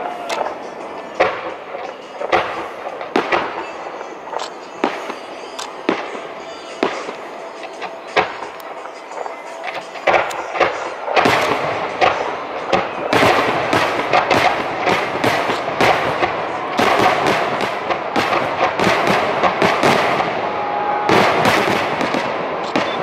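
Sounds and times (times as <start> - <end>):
firework shells bursting: 0.0 - 20.4, 21.0 - 23.0.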